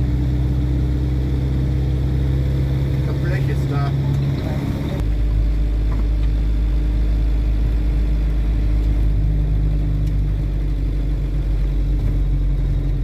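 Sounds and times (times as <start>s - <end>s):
motorhome engine and tyres rumbling: 0.0s - 13.0s.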